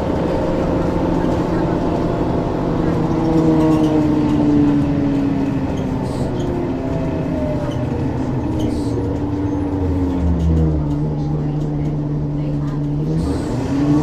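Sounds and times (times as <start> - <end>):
diesel bus engine slowing: 0.0 - 14.0.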